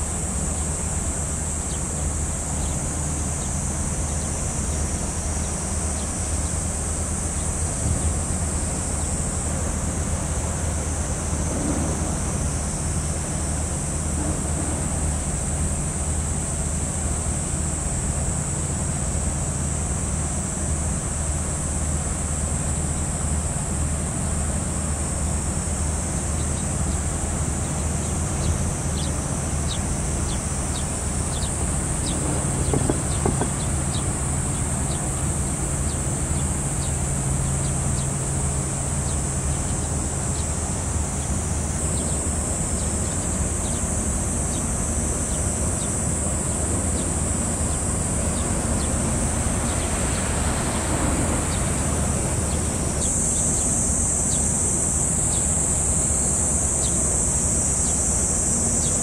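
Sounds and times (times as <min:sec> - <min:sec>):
high-pitched insect drone: 0:00.0 - 0:59.0
ship engine hum: 0:00.0 - 0:59.0.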